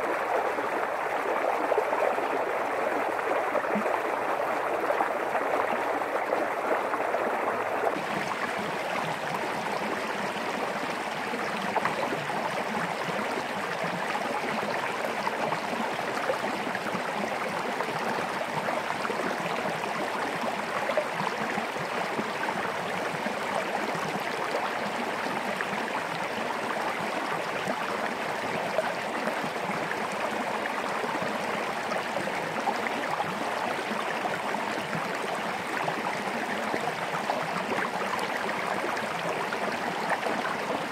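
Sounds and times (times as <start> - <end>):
stream gurgling over rocks: 0.0 - 40.9.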